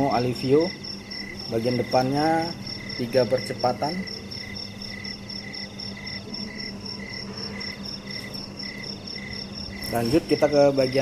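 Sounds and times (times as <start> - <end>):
faint low hum: 0.0 - 11.0
insect high pulsed call: 0.0 - 11.0
insect lower slower call: 0.0 - 11.0.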